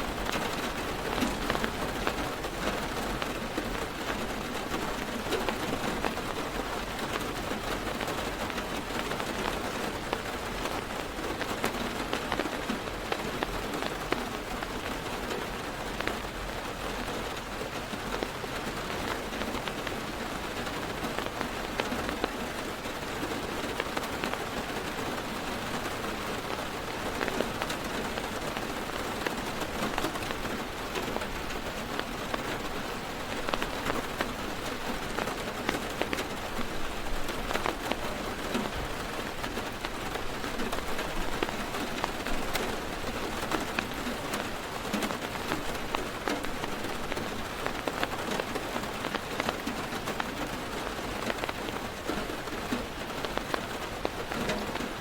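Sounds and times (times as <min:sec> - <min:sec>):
heavy rain on car roof: 0:00.0 - 0:55.0.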